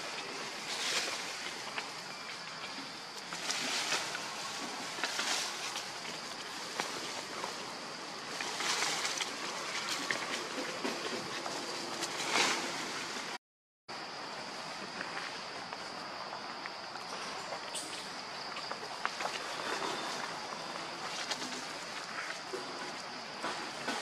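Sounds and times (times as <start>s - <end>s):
leaves and branches rustling: 0.0s - 13.4s, 14.2s - 24.0s.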